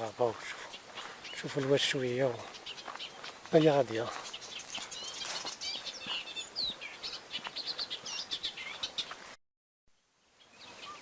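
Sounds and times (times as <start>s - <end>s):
small birds chirping: 0.0s - 9.4s, 10.0s - 11.0s
faint steady hiss: 0.0s - 11.0s.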